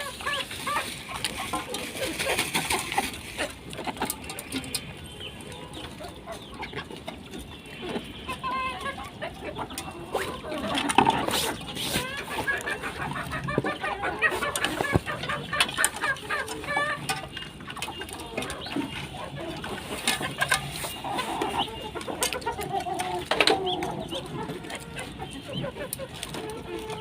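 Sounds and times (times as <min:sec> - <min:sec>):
poultry clucking and chirping: 0:00.0 - 0:27.0.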